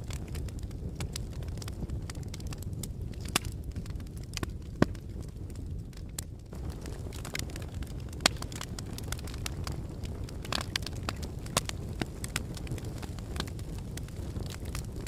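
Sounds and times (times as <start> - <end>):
lava cracks and pops: 0.0 - 15.0.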